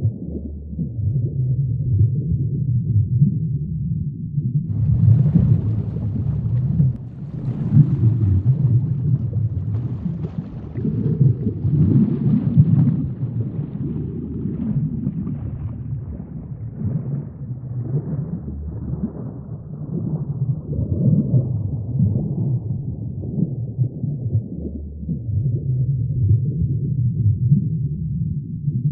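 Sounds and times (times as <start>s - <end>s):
deep underwater rumble: 0.0s - 28.9s.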